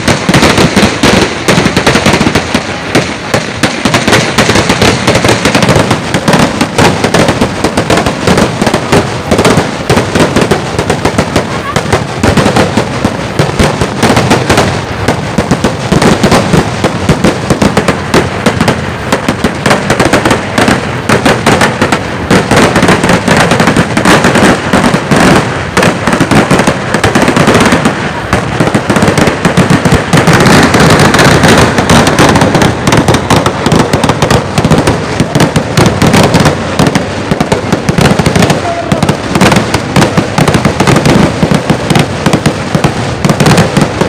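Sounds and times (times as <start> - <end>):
firecracker bangs: 0.0 - 44.0.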